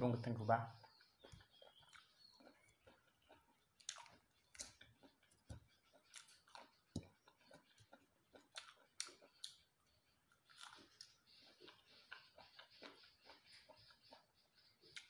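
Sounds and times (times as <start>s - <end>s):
person chewing with mouth clicks: 0.8s - 15.0s.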